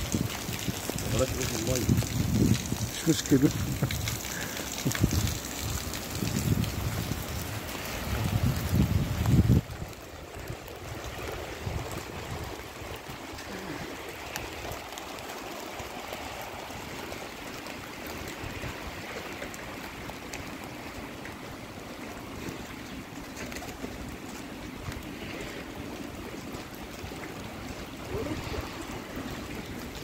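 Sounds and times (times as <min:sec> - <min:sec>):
rain falling on paved street: 0:00.0 - 0:30.0
rainwater running: 0:00.0 - 0:30.0.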